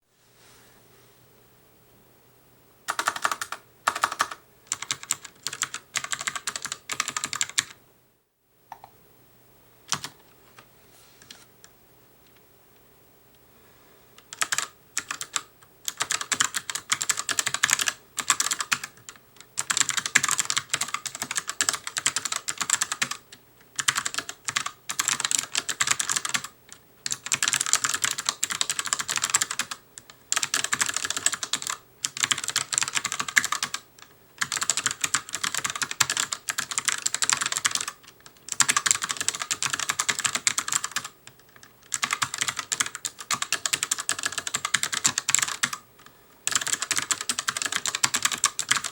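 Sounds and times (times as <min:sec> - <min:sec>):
mechanical keyboard typing: 0:02.9 - 0:07.8, 0:09.9 - 0:10.2, 0:14.2 - 0:45.8, 0:46.4 - 0:48.9.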